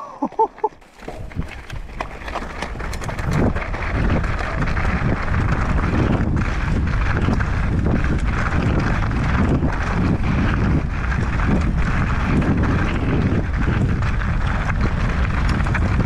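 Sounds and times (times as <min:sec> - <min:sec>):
tyres on rough ground: 0:00.0 - 0:16.0
bike knocking and rattling: 0:00.4 - 0:16.0
wind buffeting microphone: 0:01.0 - 0:16.0.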